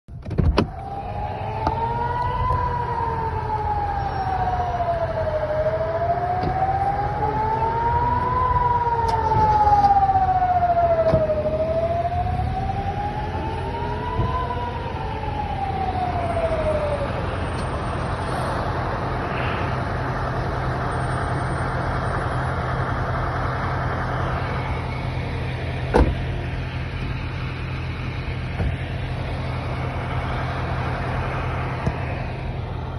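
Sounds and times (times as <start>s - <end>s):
vehicle engines idling: 0.1s - 32.9s
air-raid siren wailing: 0.5s - 32.9s.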